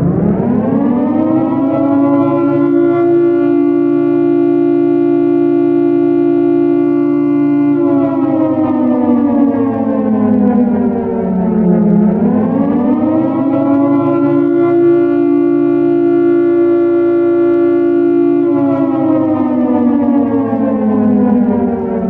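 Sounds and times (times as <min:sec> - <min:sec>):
air raid siren wailing: 0:00.0 - 0:22.0.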